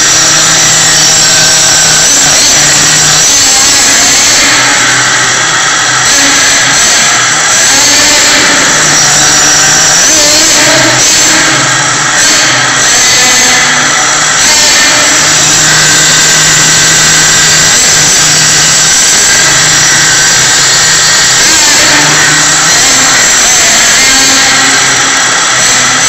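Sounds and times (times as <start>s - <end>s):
nitro engine buzzing: 0.0s - 26.0s.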